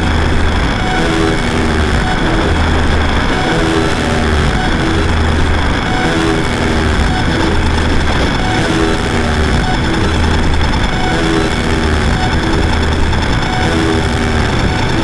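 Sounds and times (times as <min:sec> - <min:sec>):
electronic drone-noise music: 0:00.0 - 0:15.0.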